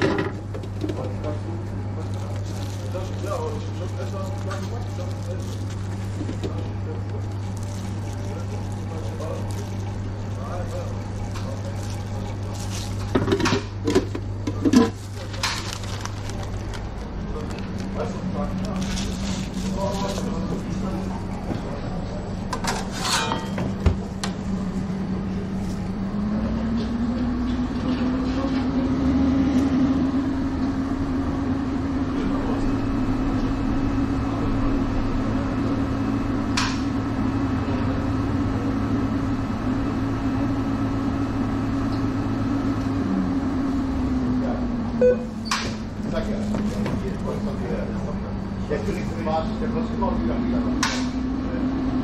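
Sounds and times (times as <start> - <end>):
oven fan hum: 0.0 - 52.0.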